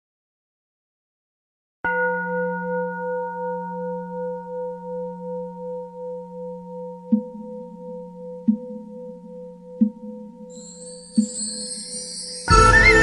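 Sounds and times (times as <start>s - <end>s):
singing bowl ringing: 1.9s - 13.0s.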